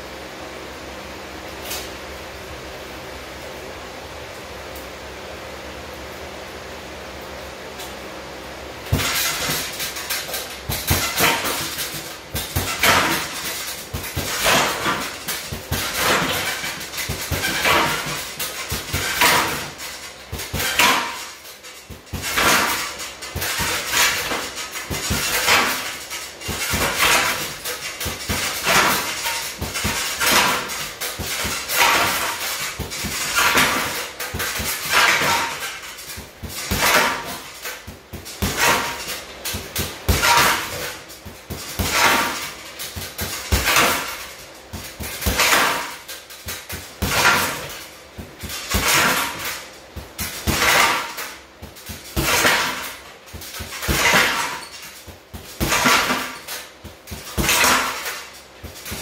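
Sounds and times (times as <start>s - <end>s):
punches on heavy bag: 8.9s - 59.0s.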